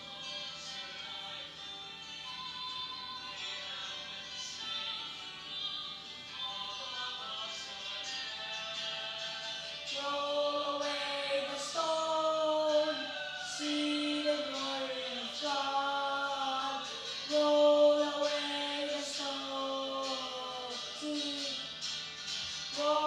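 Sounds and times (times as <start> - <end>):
slow sung chant: 0.0 - 23.0.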